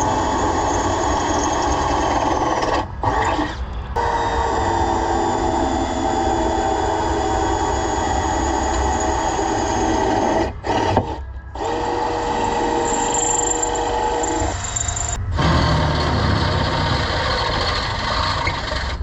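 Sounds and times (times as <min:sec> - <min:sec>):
electric drill whining: 0:00.0 - 0:03.4, 0:04.0 - 0:19.0.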